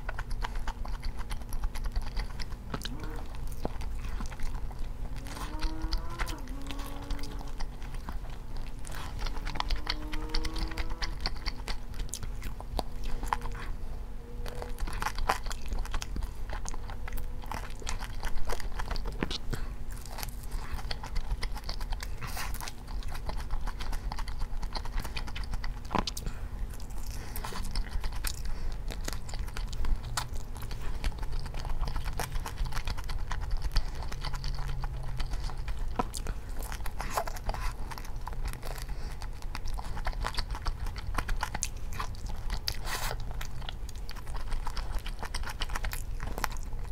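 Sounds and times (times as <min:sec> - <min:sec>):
crunching and chewing fried chicken: 0:00.0 - 0:46.9
low steady hum: 0:00.0 - 0:46.9.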